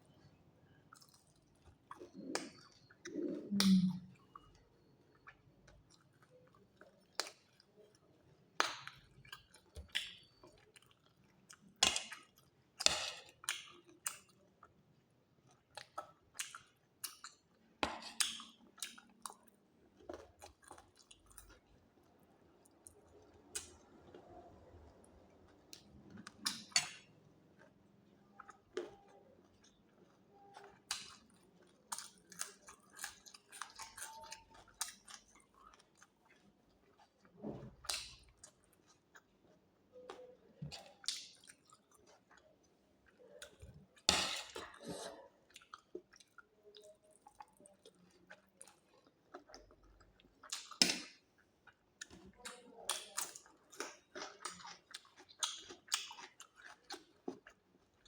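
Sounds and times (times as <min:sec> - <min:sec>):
person chewing and eating: 0:00.2 - 0:58.0.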